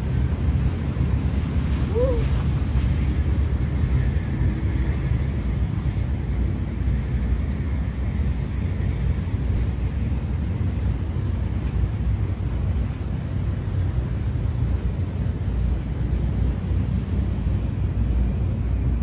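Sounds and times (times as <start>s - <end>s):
low rumble of outdoor background: 0.0s - 19.0s.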